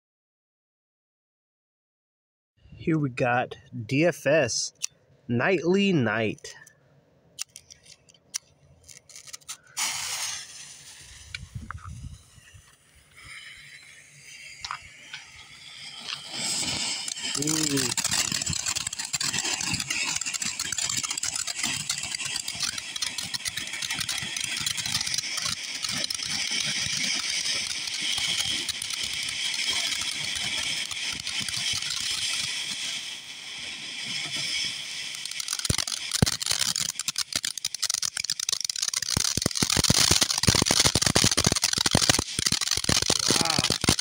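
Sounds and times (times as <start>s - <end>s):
firework crackling pops: 7.4s - 44.0s
firework fountain hissing sparks: 7.4s - 44.0s.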